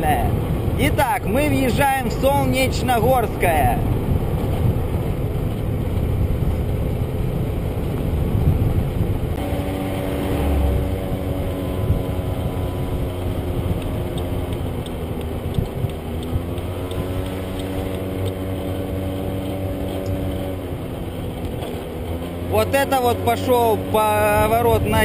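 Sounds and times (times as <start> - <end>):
wind buffeting microphone: 0.0 - 25.0
scooter engine running: 3.5 - 25.0.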